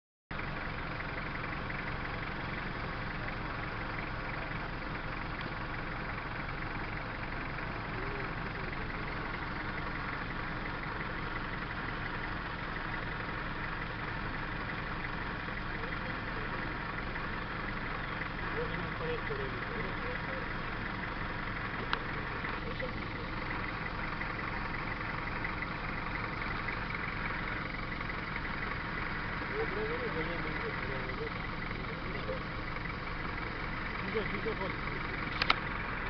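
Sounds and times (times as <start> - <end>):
vehicle engine idling: 0.3 - 36.0.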